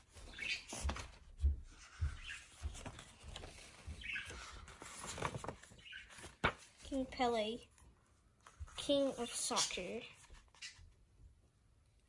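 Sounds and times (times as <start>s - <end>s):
book pages flipping: 0.0s - 11.0s.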